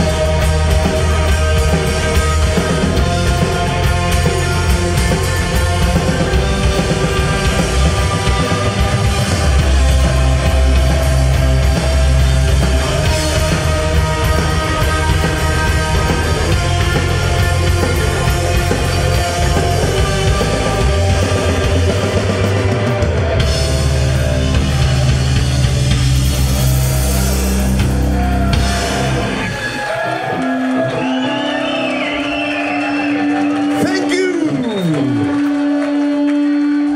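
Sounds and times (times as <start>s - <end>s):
bass guitar: 0.0s - 36.9s
distorted electric guitars: 0.0s - 36.9s
drum kit: 0.0s - 36.9s.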